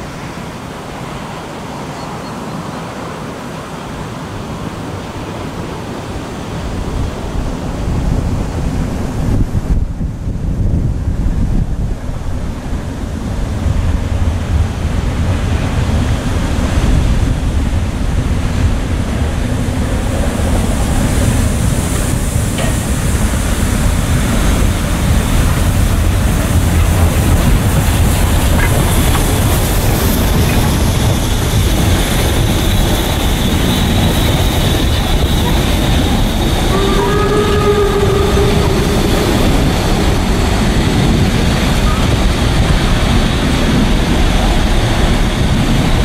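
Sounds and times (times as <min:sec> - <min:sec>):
steam train passing: 0:00.0 - 0:46.0
wind buffeting microphone: 0:02.6 - 0:46.0.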